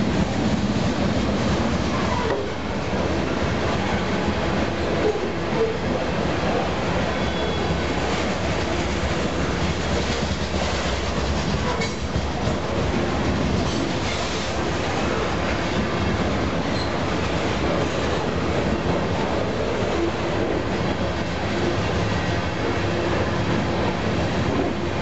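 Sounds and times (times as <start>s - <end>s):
train cars knocking: 0.0s - 5.8s, 7.1s - 24.9s
freight train wheels rumbling: 0.0s - 25.0s.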